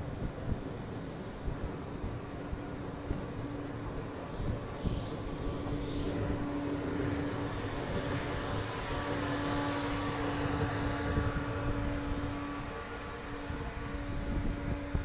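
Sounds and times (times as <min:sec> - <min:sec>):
electric train hum: 0:00.0 - 0:15.0
train wheels rumbling: 0:00.0 - 0:15.0.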